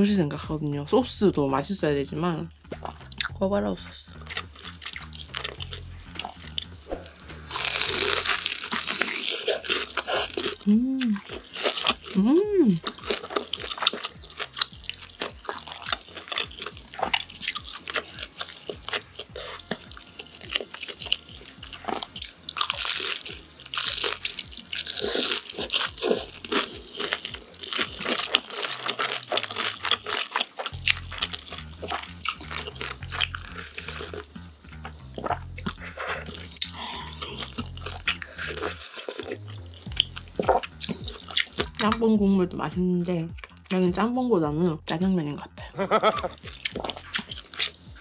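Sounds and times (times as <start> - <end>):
crunching fried food: 4.0 - 42.0, 43.4 - 43.8, 45.9 - 48.0.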